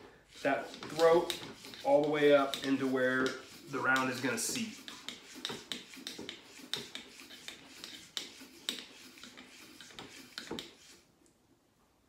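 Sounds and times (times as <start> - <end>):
cleaning rod scraping in barrel: 0.0 - 11.1.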